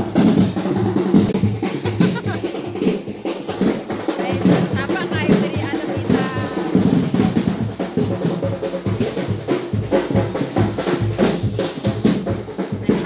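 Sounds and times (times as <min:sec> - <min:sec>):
loud parade drums: 0:00.0 - 0:13.0.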